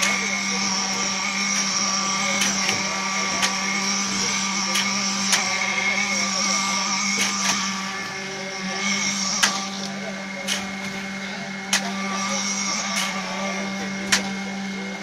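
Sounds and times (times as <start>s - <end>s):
concrete pump humming: 0.0s - 15.0s.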